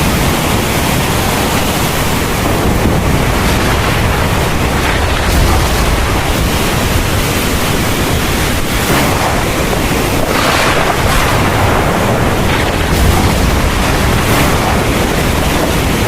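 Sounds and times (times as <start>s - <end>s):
heavy rain pouring: 0.0s - 16.0s
low rumble: 0.0s - 16.0s.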